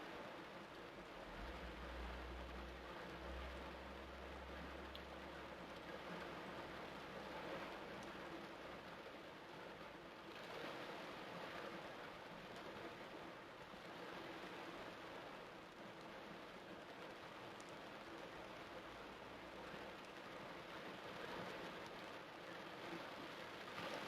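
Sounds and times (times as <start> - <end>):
torrential rain pouring: 0.0 - 24.0.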